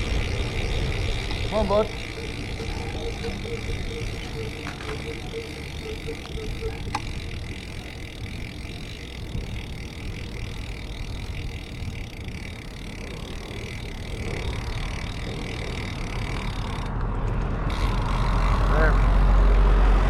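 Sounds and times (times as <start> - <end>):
bicycle tyres rolling: 0.0 - 20.0.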